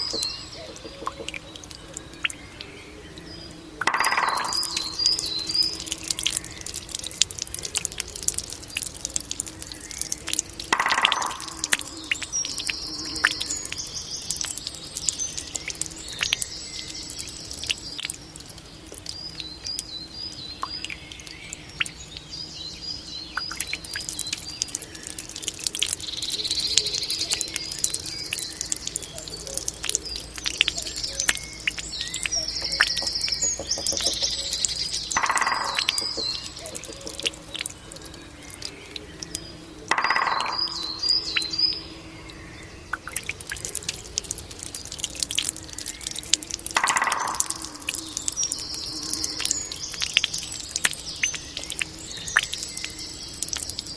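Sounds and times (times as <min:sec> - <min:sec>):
bamboo fountain trickling: 0:00.0 - 0:53.9
songbirds chirping trills: 0:00.0 - 0:53.9
water drips and splashes: 0:00.0 - 0:53.9.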